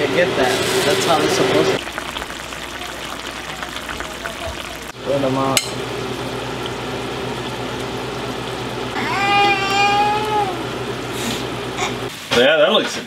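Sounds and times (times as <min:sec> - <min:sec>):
curry sizzling in a frying pan: 0:00.0 - 0:12.9.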